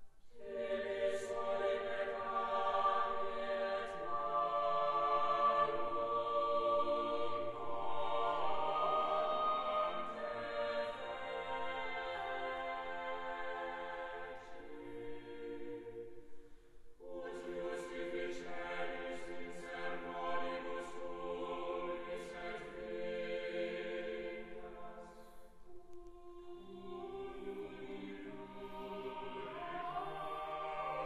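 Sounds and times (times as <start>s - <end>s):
choir singing slow song: 0.0s - 31.0s.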